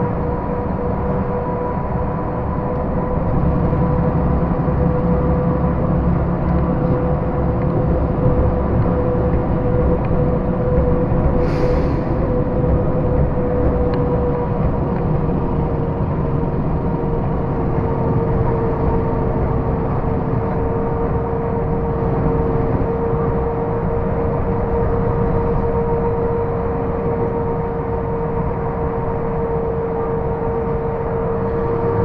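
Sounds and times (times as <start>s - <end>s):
tyre and road noise: 0.0s - 25.6s
steady whine: 0.0s - 32.0s
truck engine drone: 0.0s - 32.0s.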